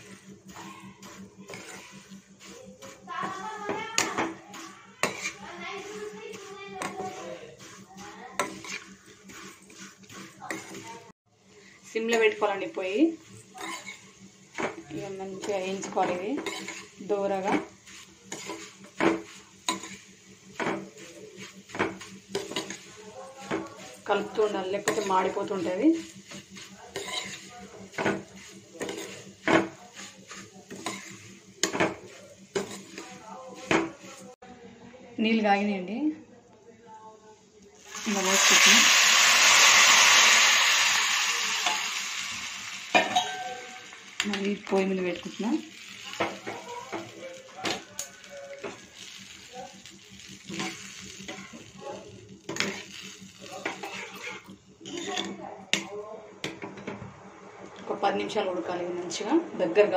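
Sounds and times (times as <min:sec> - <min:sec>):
metal ladle scraping a pan: 0:00.0 - 0:34.3, 0:37.9 - 0:55.4
steady sizzle: 0:00.0 - 0:34.4, 0:37.0 - 0:55.9.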